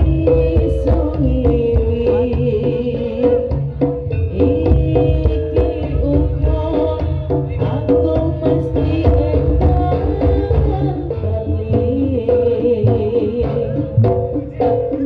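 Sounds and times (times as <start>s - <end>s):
hand drums beating busy rhythm: 0.0s - 15.0s.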